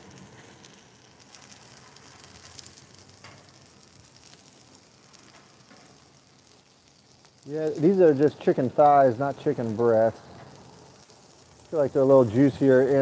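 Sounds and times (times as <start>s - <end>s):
chicken sizzling on griddle: 0.0s - 13.0s.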